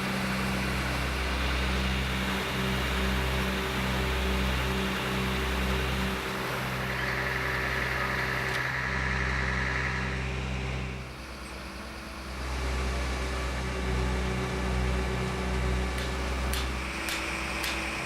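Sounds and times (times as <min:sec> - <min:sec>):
machine hum with high whine: 0:00.0 - 0:18.0.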